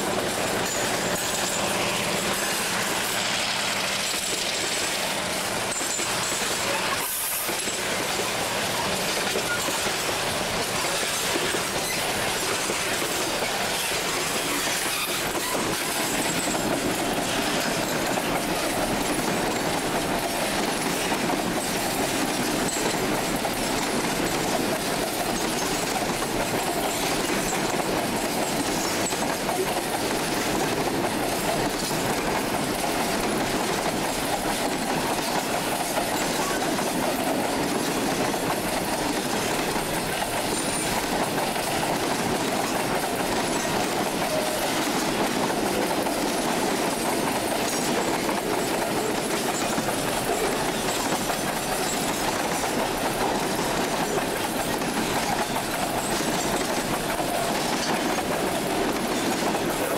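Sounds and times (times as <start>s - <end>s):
freight train wheels on rails: 0.0s - 59.9s.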